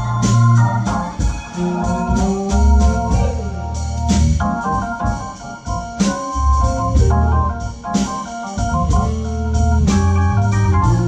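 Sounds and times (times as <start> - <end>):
bass line: 0.0 - 11.0
drums: 0.0 - 11.0
organ chords: 0.0 - 11.0.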